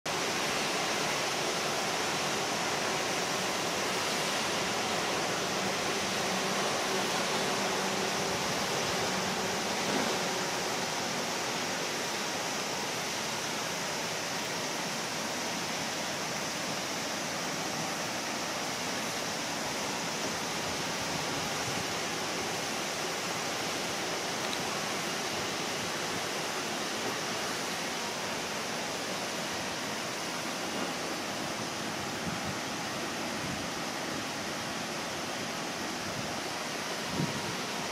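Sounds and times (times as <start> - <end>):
rain hissing: 0.1 - 37.9.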